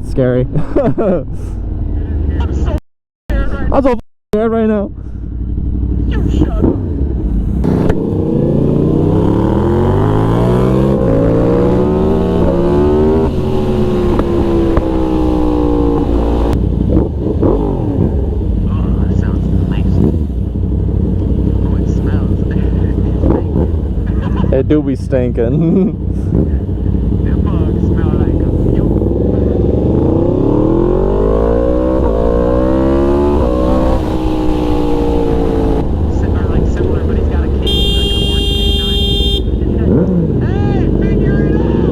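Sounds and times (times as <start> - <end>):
motorcycle engine accelerating: 5.2 - 41.9.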